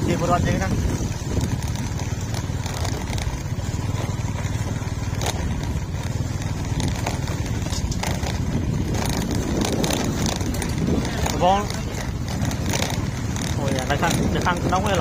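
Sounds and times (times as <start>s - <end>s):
small motorbike rumble: 0.0s - 15.0s
sharp clicks and knocks: 1.0s - 15.0s.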